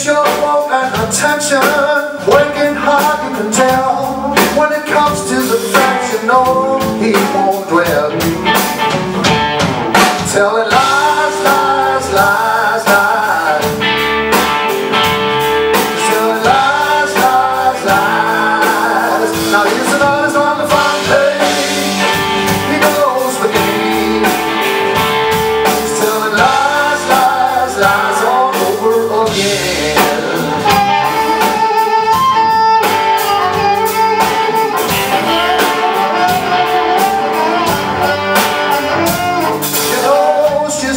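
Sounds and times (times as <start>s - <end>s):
blues band playing: 0.0s - 40.9s
blues harmonica: 0.6s - 40.9s.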